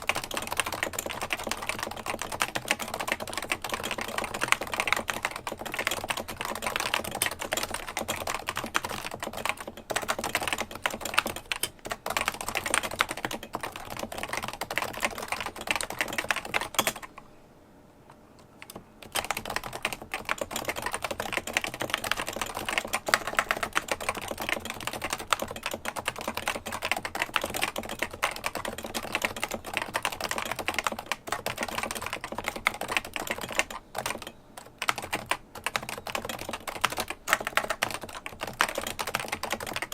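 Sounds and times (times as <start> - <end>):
fast keyboard typing: 0.0 - 17.2, 18.6 - 39.9.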